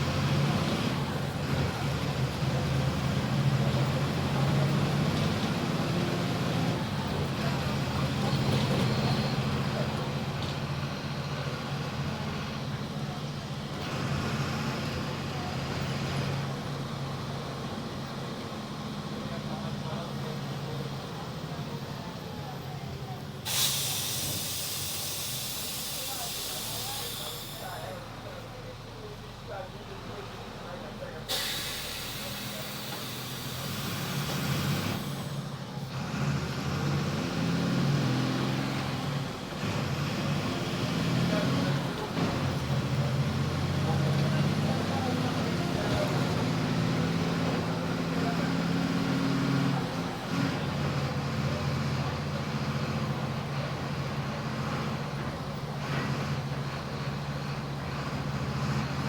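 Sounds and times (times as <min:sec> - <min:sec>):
diesel engine at high revs: 0:00.0 - 0:59.0
road noise: 0:00.0 - 0:59.0.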